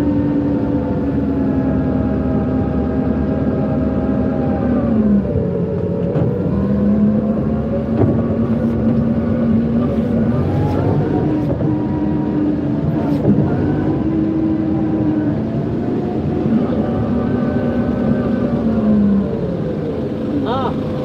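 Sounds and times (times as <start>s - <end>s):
forklift engine running: 0.0s - 21.0s.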